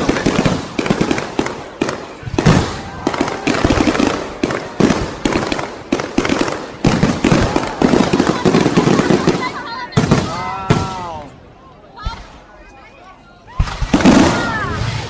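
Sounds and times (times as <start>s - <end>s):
fireworks bangs: 0.0s - 11.3s, 13.5s - 15.0s
fireworks crackling: 0.0s - 11.4s, 12.0s - 15.0s.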